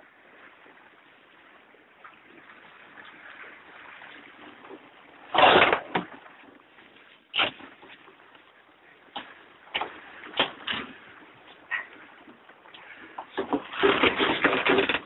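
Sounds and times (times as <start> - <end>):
water rushing along a hull: 0.0 - 15.0.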